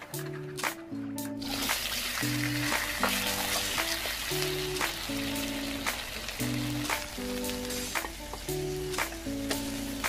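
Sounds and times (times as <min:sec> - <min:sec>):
background music melody: 0:00.0 - 0:10.0
prawns sizzling in a wok: 0:01.4 - 0:10.0.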